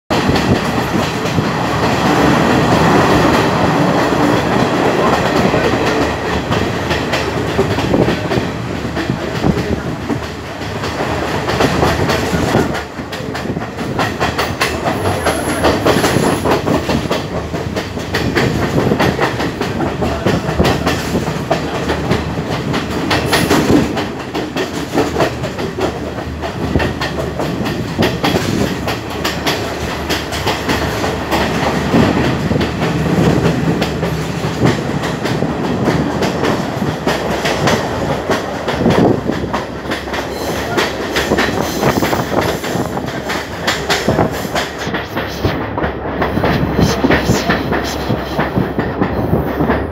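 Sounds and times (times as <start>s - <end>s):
train rumbling at speed: 0.0s - 49.9s.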